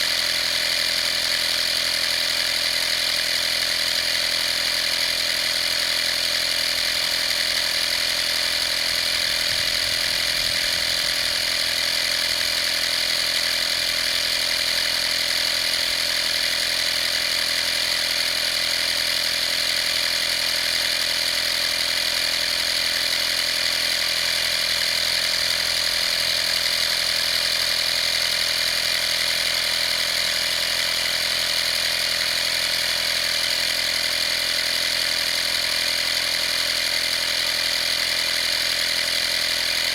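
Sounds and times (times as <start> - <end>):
air compressor whining: 0.0 - 39.9.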